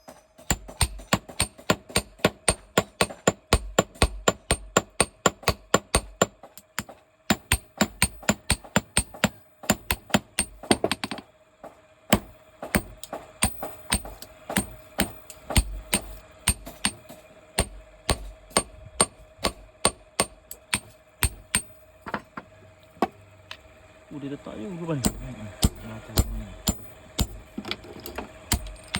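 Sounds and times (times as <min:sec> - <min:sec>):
hammer striking metal on anvil: 0:00.0 - 0:11.2, 0:12.1 - 0:22.2, 0:25.0 - 0:27.4, 0:28.5 - 0:28.9.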